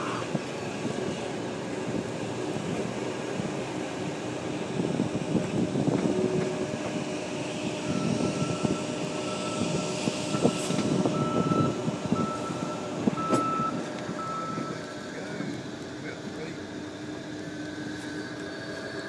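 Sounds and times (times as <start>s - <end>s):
locomotive engine and wheels rumbling: 0.0s - 19.0s.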